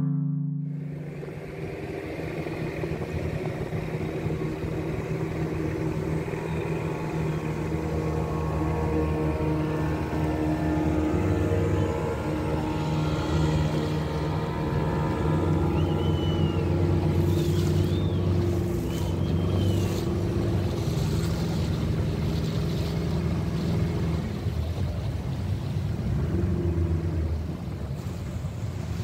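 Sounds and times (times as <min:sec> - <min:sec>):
boat motor running: 0:00.0 - 0:29.0
water rushing along hull: 0:00.0 - 0:29.0.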